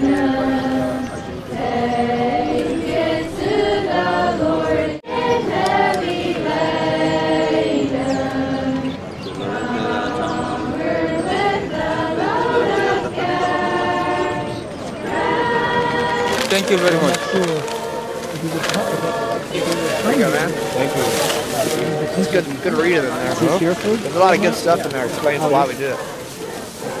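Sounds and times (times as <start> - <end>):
group singing unaccompanied: 0.0 - 27.0.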